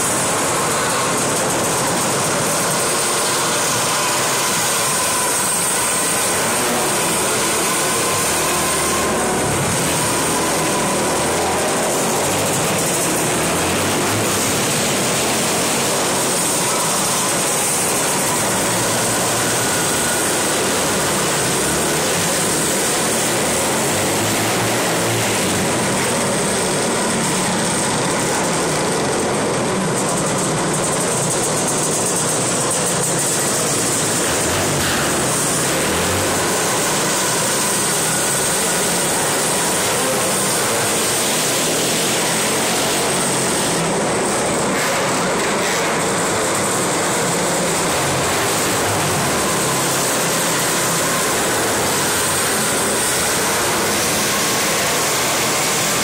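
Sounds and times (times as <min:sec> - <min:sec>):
dirt kart engines droning: 0:00.0 - 0:56.0.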